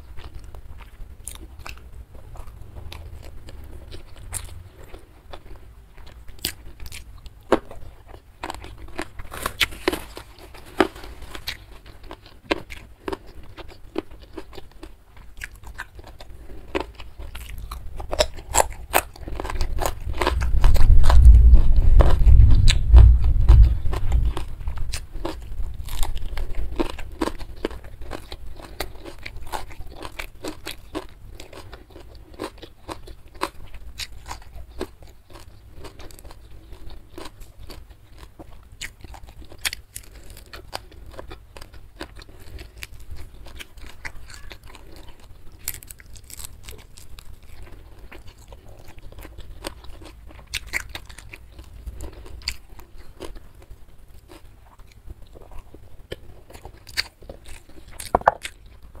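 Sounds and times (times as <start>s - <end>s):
chewing with crunches: 0.0s - 59.0s.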